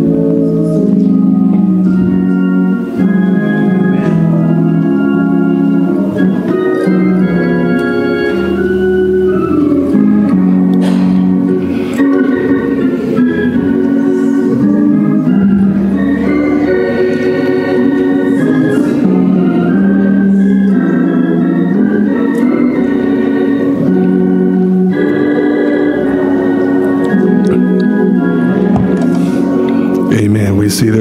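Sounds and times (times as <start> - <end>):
church organ playing hymn chords: 0.0 - 31.0.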